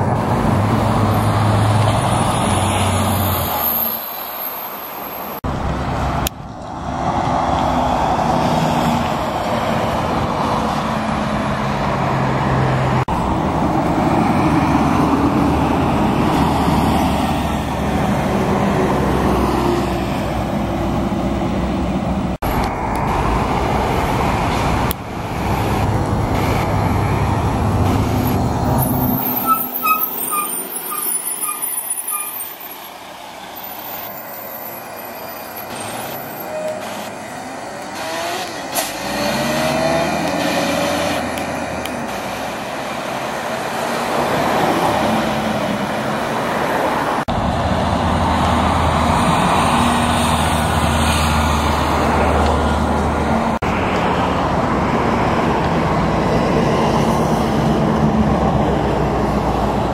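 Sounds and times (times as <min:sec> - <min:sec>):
bus engine accelerating: 0:00.0 - 0:59.9
buses driving past: 0:00.0 - 0:59.9
road traffic: 0:00.0 - 0:59.9.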